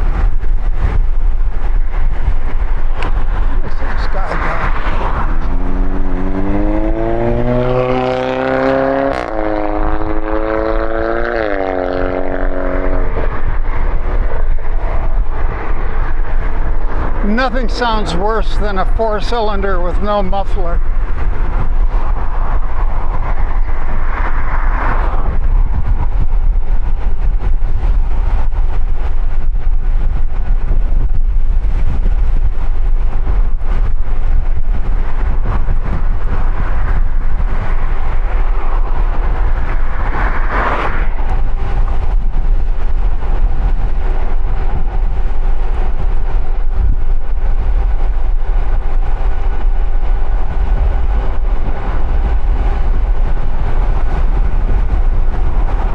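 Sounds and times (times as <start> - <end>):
traffic noise: 0.0 - 55.9
vehicles passing: 0.0 - 55.9
wind rumbling on microphone: 0.0 - 55.9.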